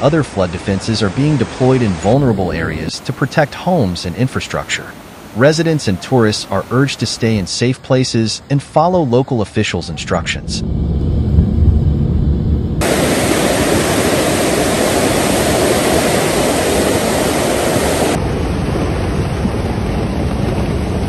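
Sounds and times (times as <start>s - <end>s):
rushing floodwater: 0.0s - 10.4s, 12.8s - 21.0s.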